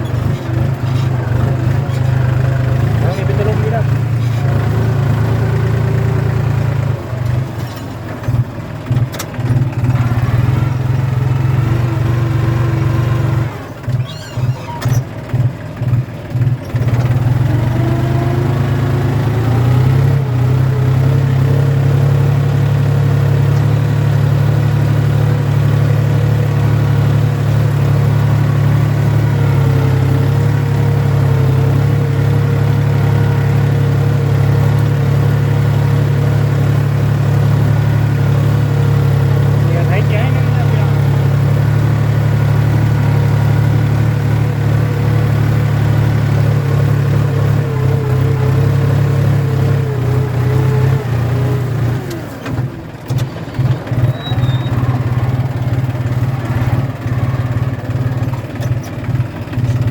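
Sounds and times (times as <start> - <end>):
tractor engine plowing: 0.0 - 59.9.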